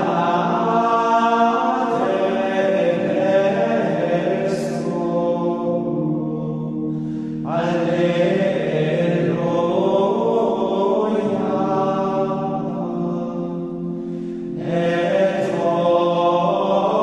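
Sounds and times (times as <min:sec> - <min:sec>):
voices singing plainchant: 0:00.0 - 0:17.0.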